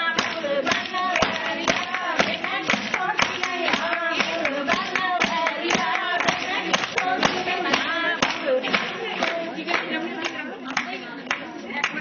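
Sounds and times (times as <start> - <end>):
rhythmic hand clapping: 0.0 - 12.0
women singing in a group: 0.0 - 12.0.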